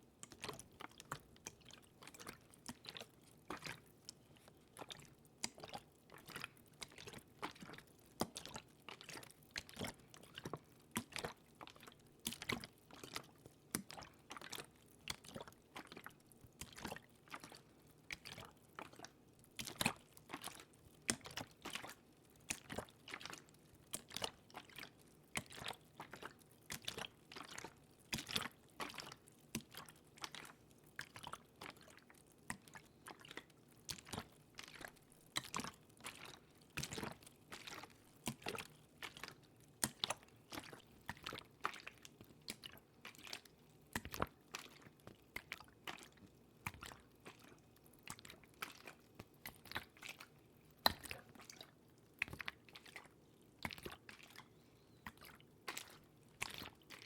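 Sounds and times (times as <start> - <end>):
water drips and splashes: 0.2 - 57.0.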